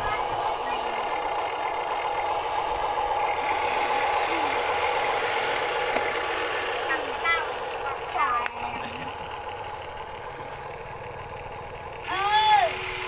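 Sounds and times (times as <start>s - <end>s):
rc excavator motor whine: 0.0s - 13.0s
tracks grinding over dirt: 0.0s - 13.0s.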